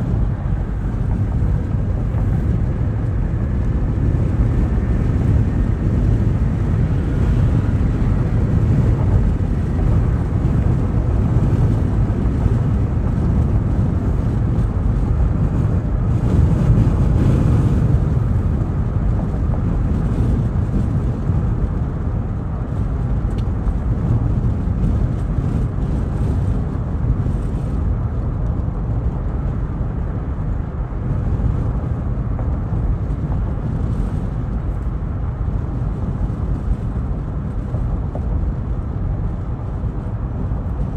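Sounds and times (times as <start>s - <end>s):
car driving low rumble: 0.0s - 40.9s.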